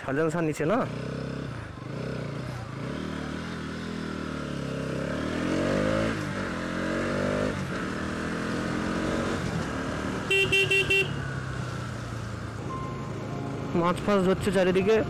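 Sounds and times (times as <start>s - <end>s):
motorcycle engine accelerating: 0.6s - 15.0s.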